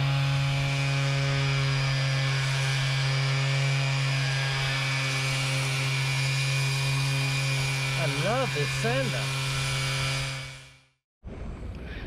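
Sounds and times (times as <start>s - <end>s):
orbital sander humming: 0.0s - 10.8s.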